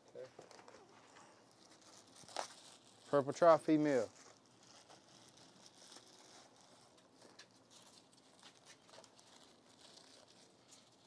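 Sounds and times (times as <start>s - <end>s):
packaging crinkling: 0.4s - 11.0s.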